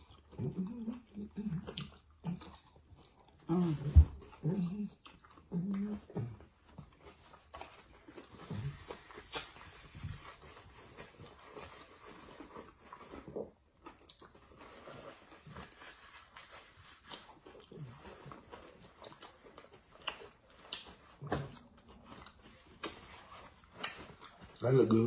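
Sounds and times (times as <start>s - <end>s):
chewing and lip-smacking: 0.0s - 9.8s, 10.8s - 25.0s.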